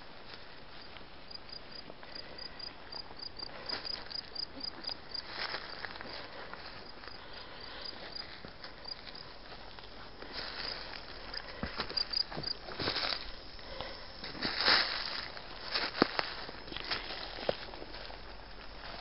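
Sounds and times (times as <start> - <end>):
insect chirping: 0.8 - 19.0
footsteps on rocky trail: 3.1 - 19.0.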